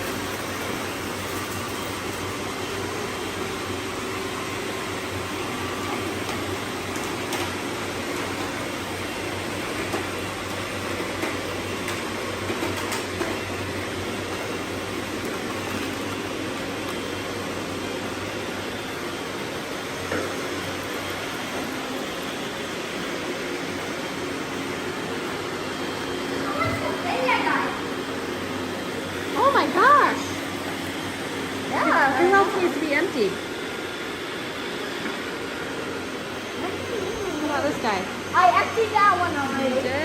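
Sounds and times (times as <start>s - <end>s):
robot vacuums whirring: 0.0s - 40.0s.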